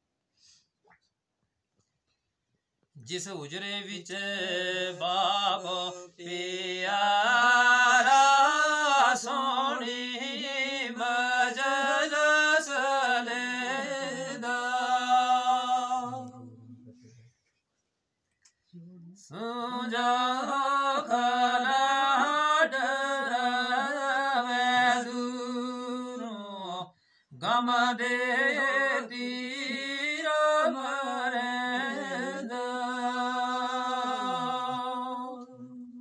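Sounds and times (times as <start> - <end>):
man singing unaccompanied: 3.0 - 16.8, 19.2 - 36.0.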